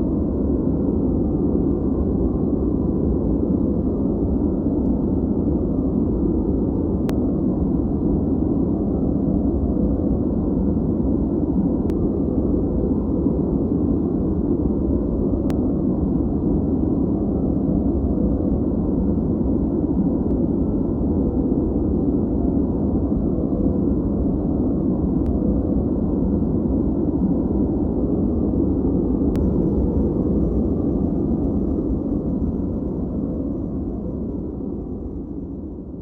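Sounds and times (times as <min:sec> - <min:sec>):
deep muffled white noise: 0:00.0 - 0:36.0.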